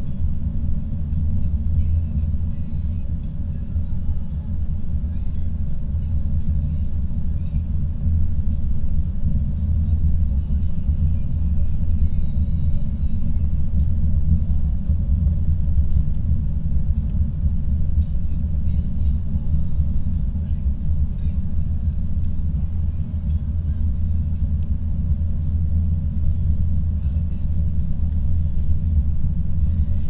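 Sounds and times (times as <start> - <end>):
car road noise from inside: 0.0 - 30.0.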